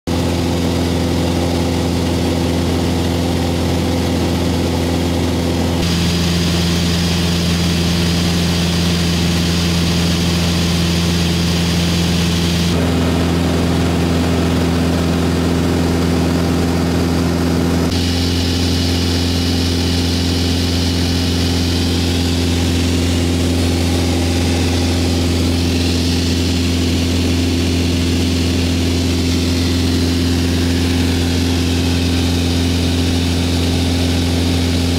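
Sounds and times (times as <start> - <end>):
propeller plane engine drone: 0.1 - 34.9.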